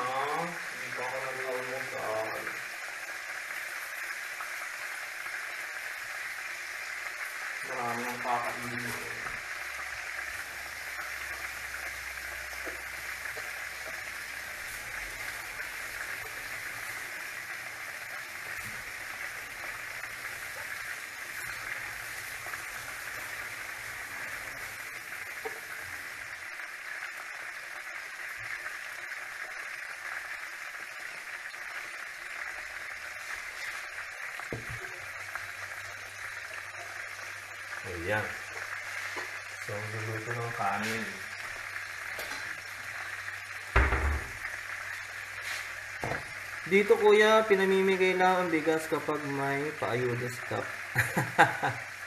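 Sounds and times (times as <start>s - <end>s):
chicken sizzling in hot oil: 0.0s - 52.0s
faint oil crackles: 0.1s - 52.0s.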